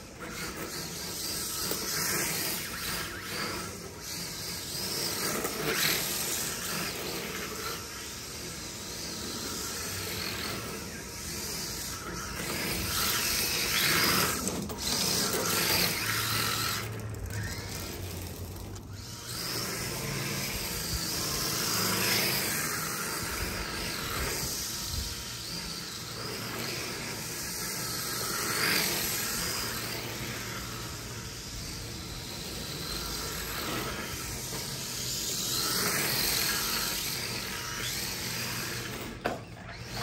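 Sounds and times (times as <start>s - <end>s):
rc car tyres hissing on concrete: 0.0s - 40.0s.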